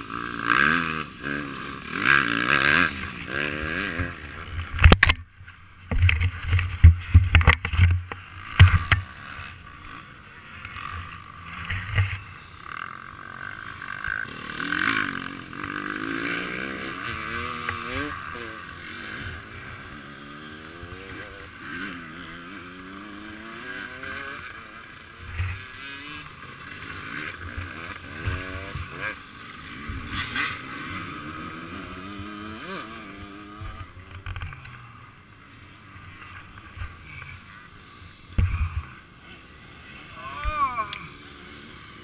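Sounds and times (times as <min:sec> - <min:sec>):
dirt bike engines revving: 0:00.0 - 0:42.0.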